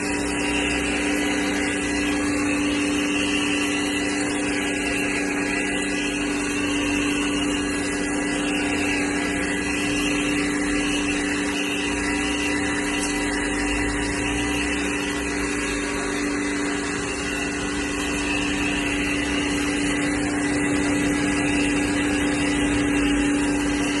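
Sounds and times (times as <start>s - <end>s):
hissing water spray: 0.0s - 24.0s
pressure washer motor humming: 0.0s - 24.0s.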